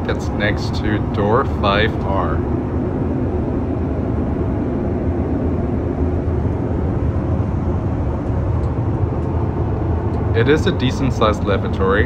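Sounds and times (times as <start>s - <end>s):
airplane cabin rumble and hiss: 0.0s - 12.0s.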